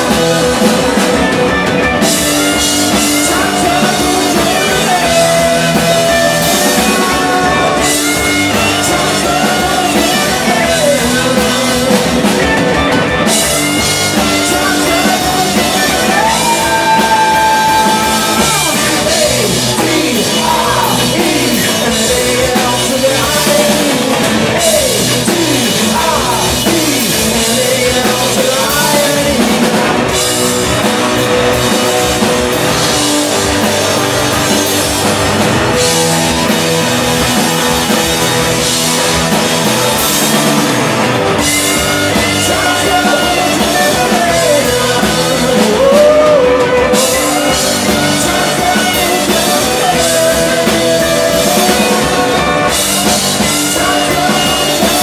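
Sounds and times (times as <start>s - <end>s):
bass guitar: 0.0s - 55.0s
drum kit with cymbals: 0.0s - 55.0s
electric guitars: 0.0s - 55.0s
person singing: 2.1s - 32.6s, 37.4s - 55.0s.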